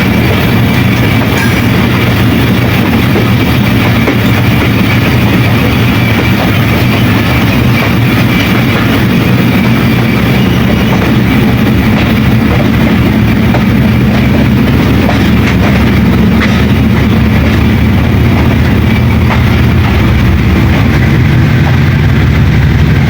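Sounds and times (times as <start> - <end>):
diesel locomotive rumbling: 0.0 - 23.0.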